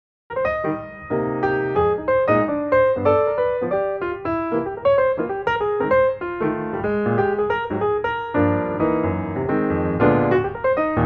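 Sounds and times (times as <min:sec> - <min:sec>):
piano background music: 0:00.3 - 0:11.0.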